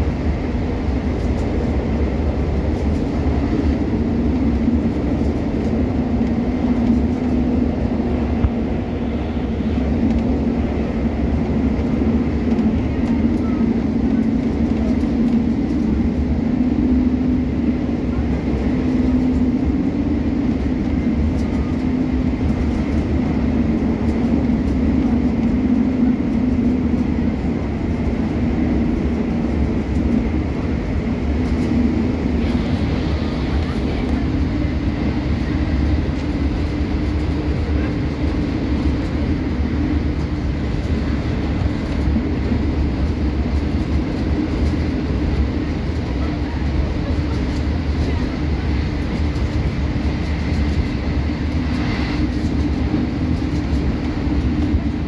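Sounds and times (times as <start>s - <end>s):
train rumbling inside carriage: 0.0s - 55.0s.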